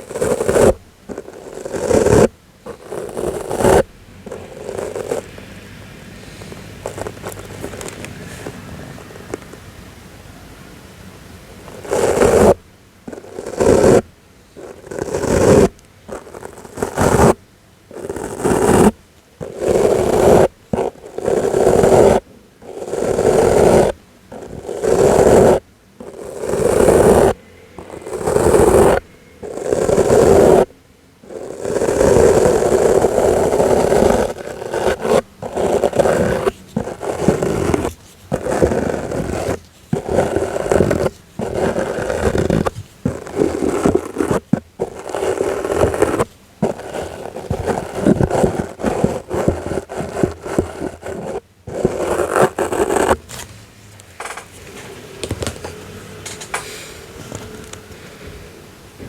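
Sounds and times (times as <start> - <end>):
soft brush strokes: 0.0 - 58.7.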